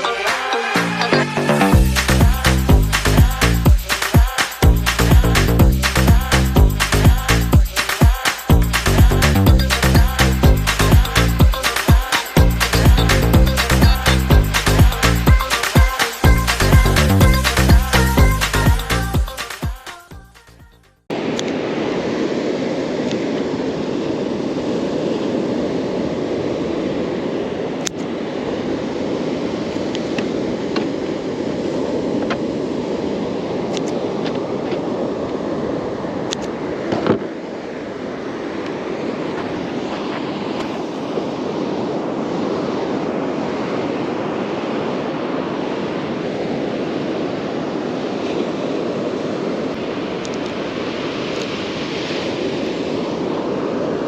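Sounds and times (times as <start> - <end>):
surf rushing: 0.0 - 20.2, 21.1 - 54.0
wind on microphone: 1.7 - 19.3, 21.1 - 54.0.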